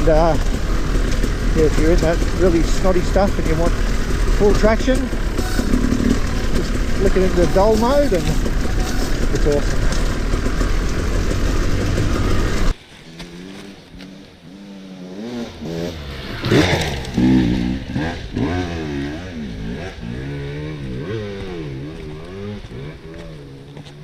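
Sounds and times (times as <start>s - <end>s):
dirt bike engine revving: 0.0s - 24.0s
loud riding noise: 0.0s - 24.0s.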